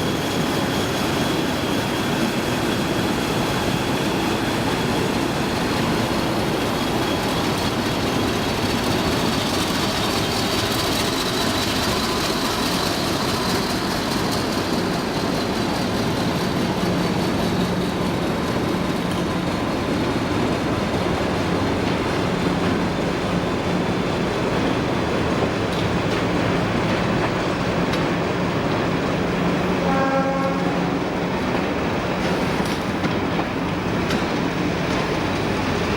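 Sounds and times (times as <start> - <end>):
diesel train rumbling: 0.0 - 35.9.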